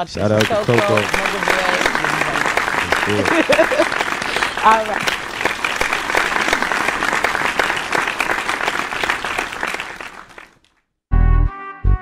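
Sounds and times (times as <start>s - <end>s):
applause: 0.2s - 10.8s.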